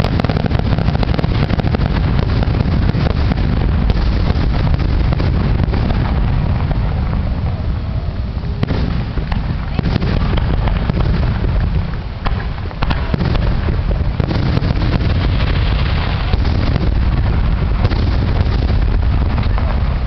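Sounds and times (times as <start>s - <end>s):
fireworks bangs and crackles: 0.0s - 20.0s
low rumble: 0.0s - 20.0s.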